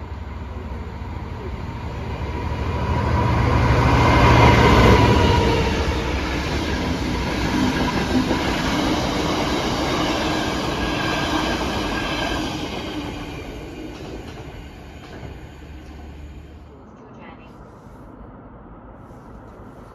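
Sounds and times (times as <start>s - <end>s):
freight train passing on rails: 0.0s - 16.9s.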